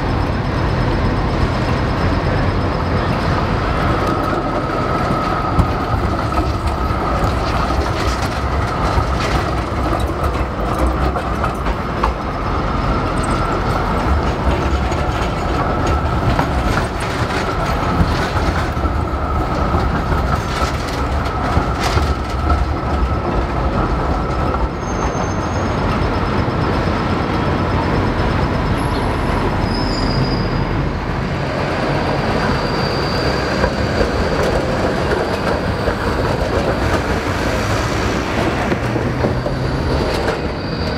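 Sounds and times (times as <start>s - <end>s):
road traffic: 0.0s - 40.9s
tram wheels rumbling over rail joints: 0.0s - 40.9s.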